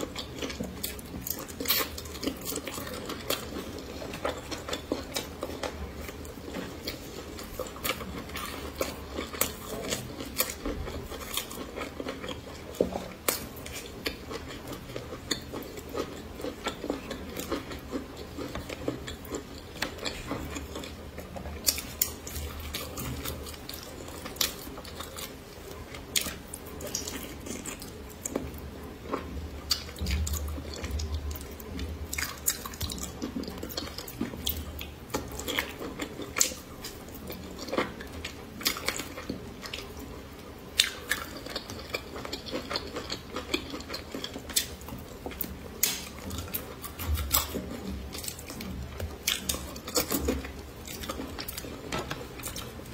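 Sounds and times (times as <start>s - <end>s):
chewing and wet mouth sounds: 0.0s - 52.9s.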